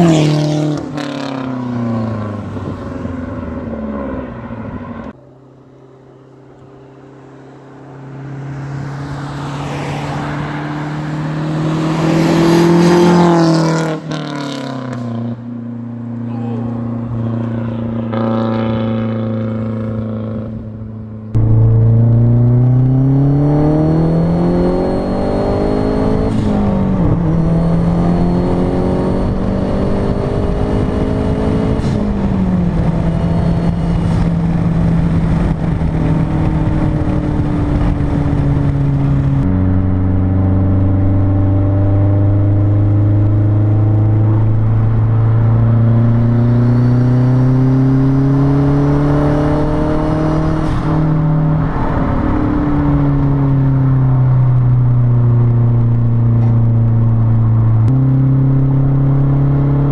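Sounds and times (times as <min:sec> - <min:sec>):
car exhaust under acceleration: 0:00.0 - 0:59.9.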